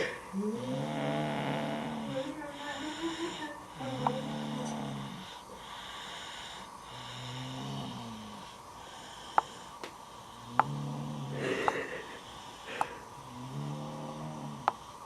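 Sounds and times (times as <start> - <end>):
slow low snoring: 0.4 - 15.0.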